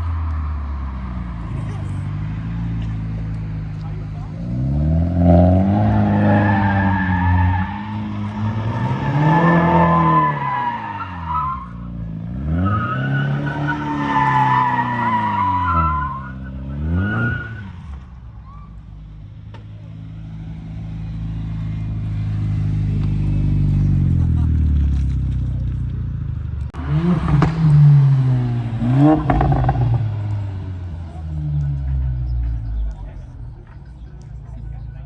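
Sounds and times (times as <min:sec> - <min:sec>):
car engine revving: 0:00.0 - 0:18.2, 0:19.3 - 0:35.0.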